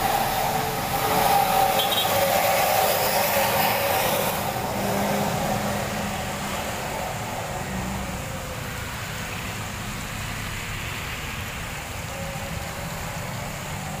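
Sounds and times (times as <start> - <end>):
motorcycles and cars passing: 0.0 - 14.0
truck diesel engine: 0.0 - 14.0
tyres hissing on wet road: 0.0 - 14.0.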